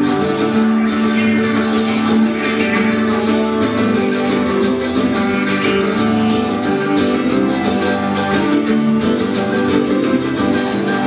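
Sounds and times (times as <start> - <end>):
band playing with strummed guitars: 0.0 - 11.0.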